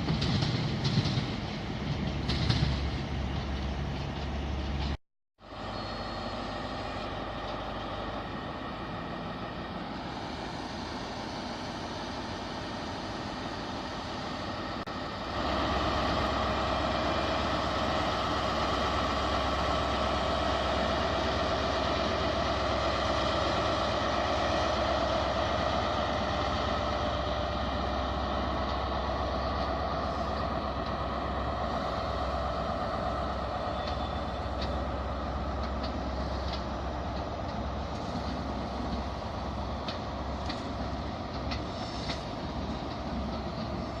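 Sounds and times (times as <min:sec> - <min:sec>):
diesel train engine drone: 0:00.0 - 0:44.0.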